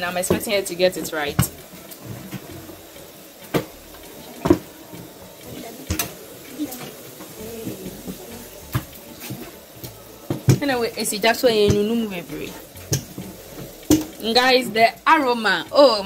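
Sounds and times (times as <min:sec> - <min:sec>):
kitchen utensils knocking: 0:00.0 - 0:16.0
steady hiss: 0:00.0 - 0:16.0.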